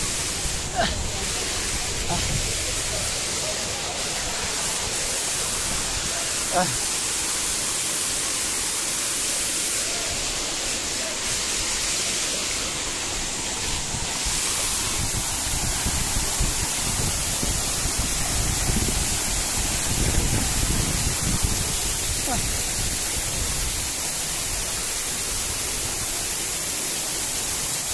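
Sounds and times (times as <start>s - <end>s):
waterfall splashing into pool: 0.0s - 27.9s.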